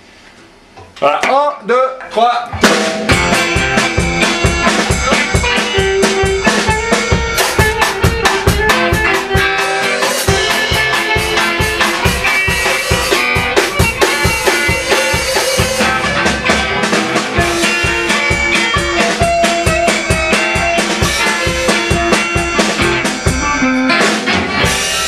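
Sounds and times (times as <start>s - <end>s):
guitars: 0.8s - 25.0s
drum kit beat: 2.5s - 25.0s
cymbals: 2.6s - 25.0s.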